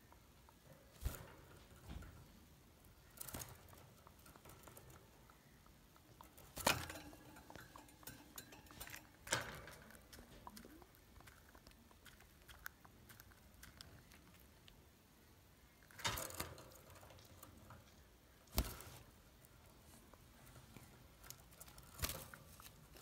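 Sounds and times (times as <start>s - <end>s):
birds clicking and tapping in cage: 0.1s - 14.9s, 15.7s - 23.0s.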